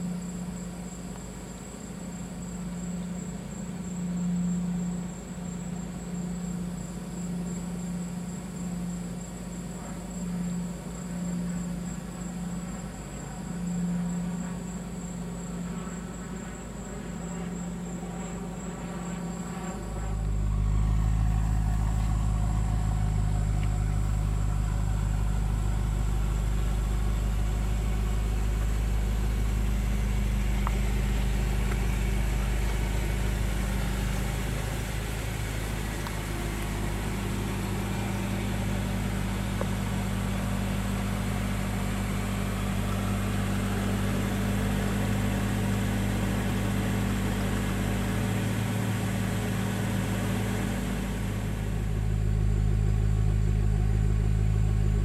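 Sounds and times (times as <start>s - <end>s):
car engine idling: 0.0s - 55.0s
low exhaust rumble: 0.0s - 55.0s.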